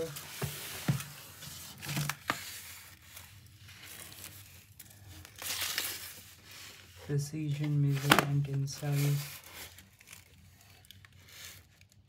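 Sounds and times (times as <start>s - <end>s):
packing tape and foil crinkling: 0.0s - 12.0s.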